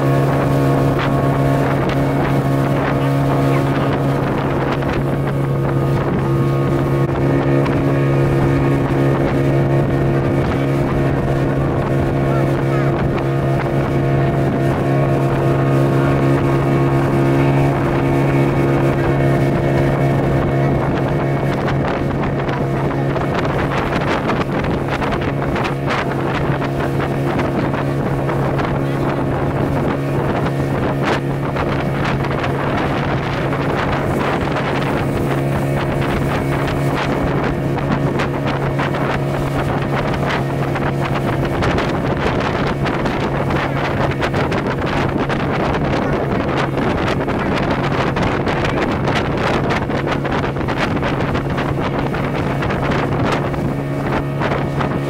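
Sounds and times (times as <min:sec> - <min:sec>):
speedboat engine running: 0:00.0 - 0:55.0
water rushing off hull: 0:00.0 - 0:55.0
wind buffeting microphone: 0:00.0 - 0:55.0.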